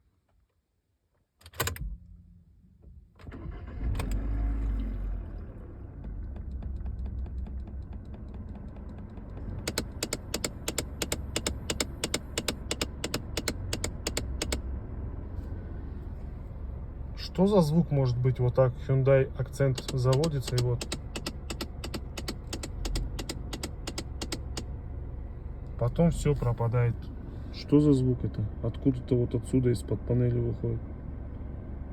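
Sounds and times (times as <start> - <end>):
car engine starting and idling: 1.4 - 31.9.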